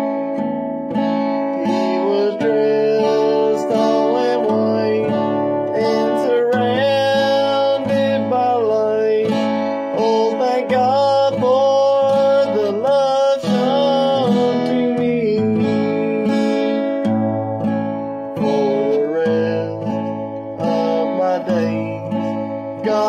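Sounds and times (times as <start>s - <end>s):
strummed acoustic guitar: 0.0s - 23.0s
man singing gospel song: 1.5s - 17.0s, 18.3s - 23.0s.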